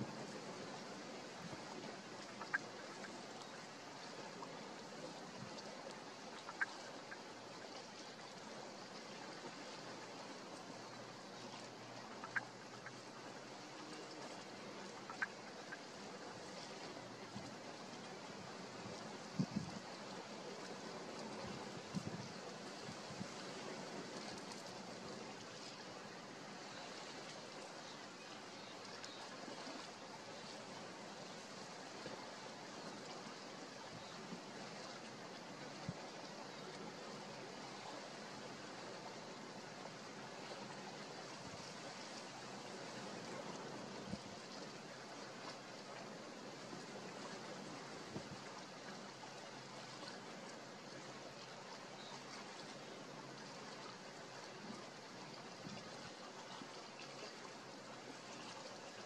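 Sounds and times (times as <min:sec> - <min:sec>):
rushing water: 0:00.0 - 0:59.0
wind: 0:00.0 - 0:59.0.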